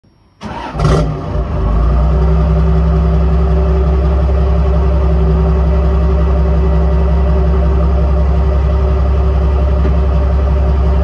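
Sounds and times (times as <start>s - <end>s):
diesel engine starting and idling: 0.4s - 11.0s.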